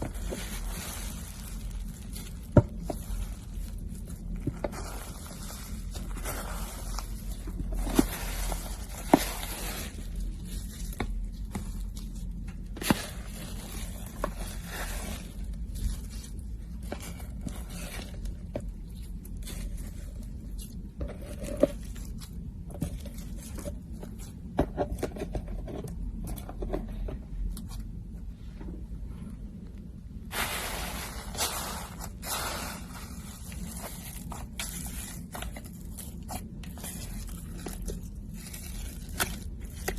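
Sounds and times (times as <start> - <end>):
soft scraping and rustling: 0.0 - 29.4, 30.3 - 39.9.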